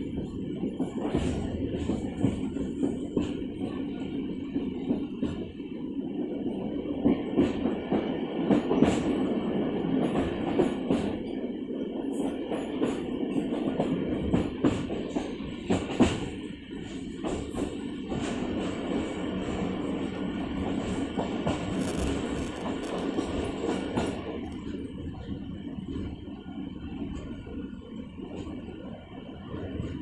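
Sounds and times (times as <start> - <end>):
train running gear clatter: 0.0 - 30.0
train wheels rumbling on rails: 0.0 - 30.0.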